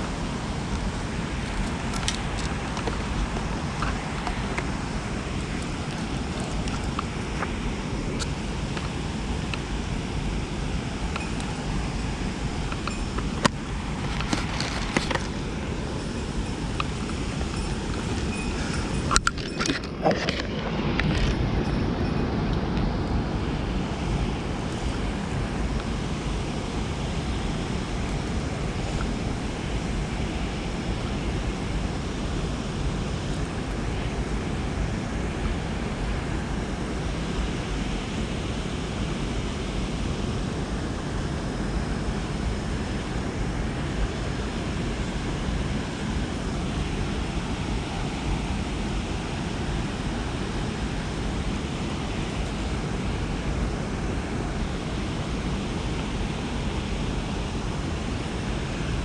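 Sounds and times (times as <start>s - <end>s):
rushing water: 0.0s - 59.0s
wind buffeting microphone: 0.0s - 59.0s.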